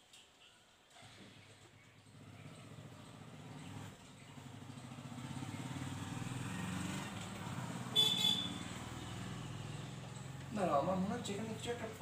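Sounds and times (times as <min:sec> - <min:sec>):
vehicle engine approaching: 0:01.0 - 0:12.0.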